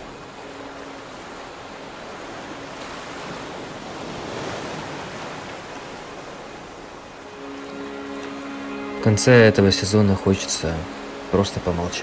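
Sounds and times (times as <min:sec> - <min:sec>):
surf washing onto a beach: 0:00.0 - 0:12.0.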